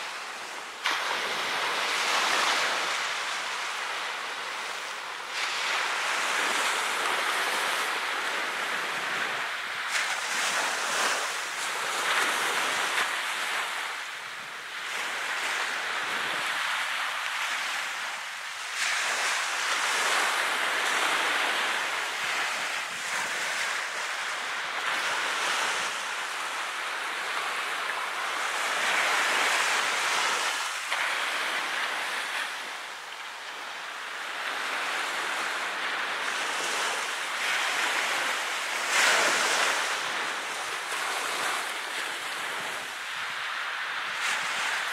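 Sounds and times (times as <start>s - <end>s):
small waves breaking on beach: 0.0s - 44.9s.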